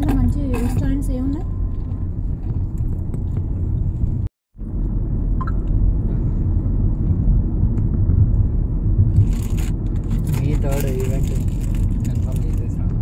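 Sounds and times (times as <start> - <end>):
road noise inside a car: 0.0 - 13.0.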